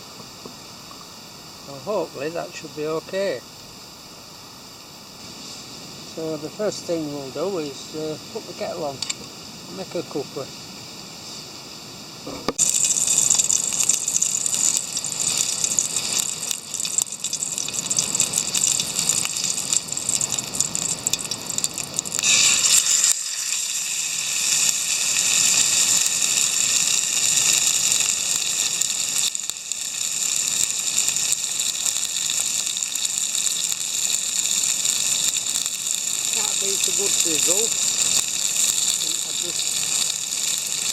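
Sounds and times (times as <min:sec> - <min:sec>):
meat sizzling in a frying pan: 0:00.0 - 0:40.9.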